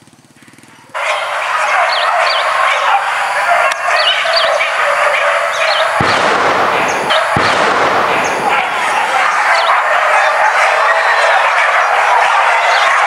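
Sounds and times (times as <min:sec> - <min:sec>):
bird chirping: 0:00.1 - 0:13.0
steady rushing noise: 0:00.9 - 0:13.0.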